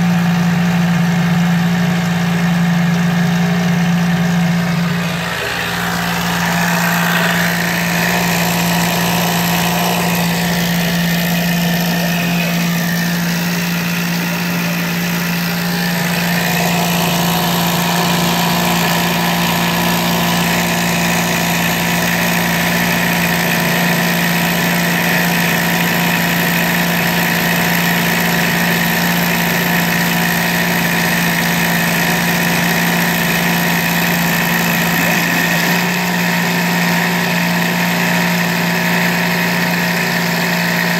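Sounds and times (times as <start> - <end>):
needle cutter motor buzzing: 4.0 - 40.9.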